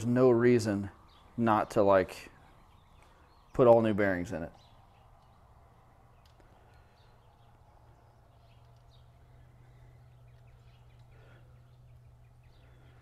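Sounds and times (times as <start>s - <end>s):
faint bird chirps: 0.0s - 13.0s
low steady hum: 0.0s - 13.0s.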